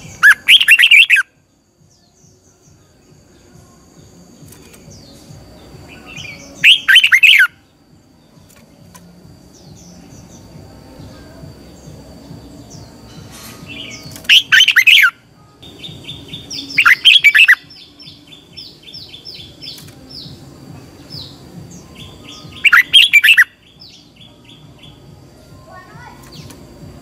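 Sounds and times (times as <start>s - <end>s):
bird song phrases: 0.0s - 27.0s.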